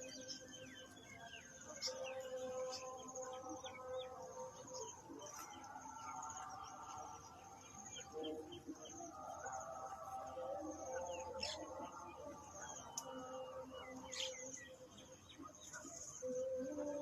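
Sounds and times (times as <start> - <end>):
doves cooing: 1.6 - 17.0.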